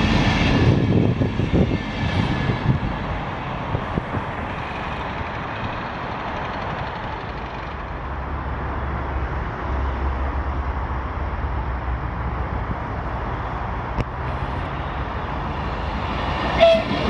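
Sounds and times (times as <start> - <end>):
electric train rushing rumble: 0.0 - 17.0.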